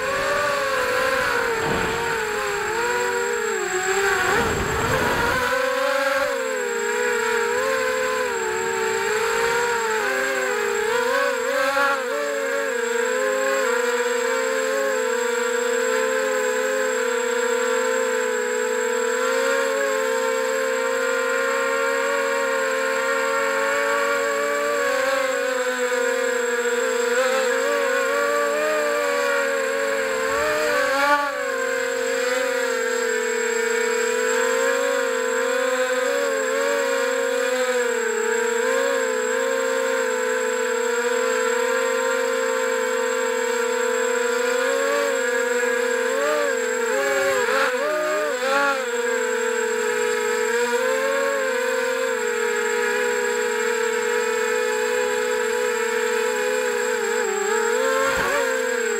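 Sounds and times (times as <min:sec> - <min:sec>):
drone motors whining: 0:00.0 - 0:58.9.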